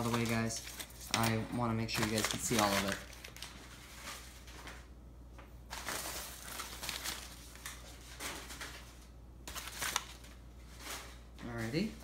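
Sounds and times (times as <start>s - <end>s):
newspaper rustling and crinkling: 0.0s - 4.9s, 5.7s - 12.0s.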